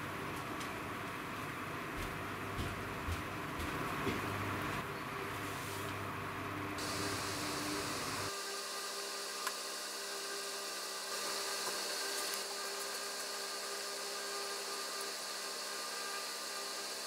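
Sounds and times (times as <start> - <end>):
faint mechanical hum: 0.0 - 17.0.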